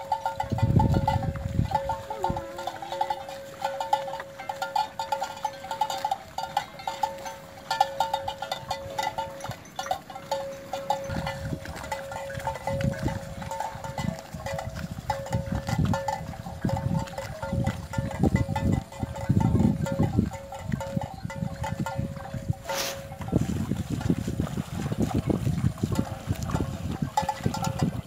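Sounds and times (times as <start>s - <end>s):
animal bells clanking: 0.0s - 28.0s.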